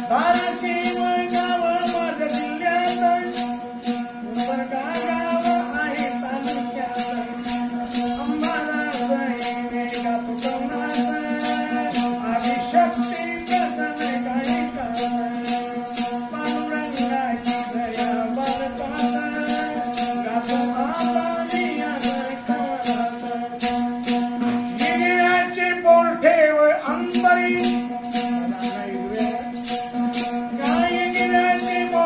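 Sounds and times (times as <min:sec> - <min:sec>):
jingling hand clapper beat: 0:00.0 - 0:32.0
man singing folk song: 0:00.0 - 0:32.0.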